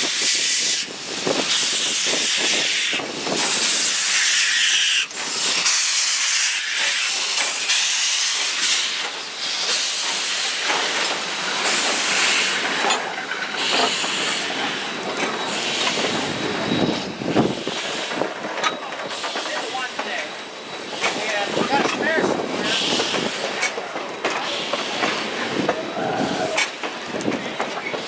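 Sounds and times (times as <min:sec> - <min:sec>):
steam locomotive hissing steam: 0:00.0 - 0:28.0.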